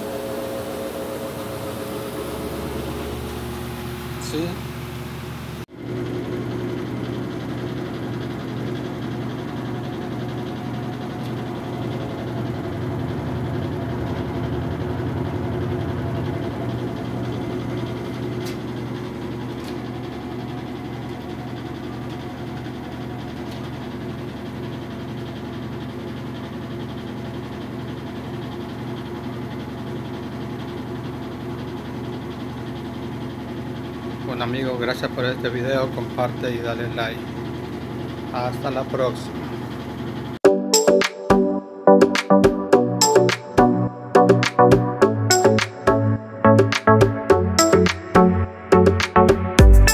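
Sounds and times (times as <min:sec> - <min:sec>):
washing machine spinning: 0:00.0 - 0:40.4.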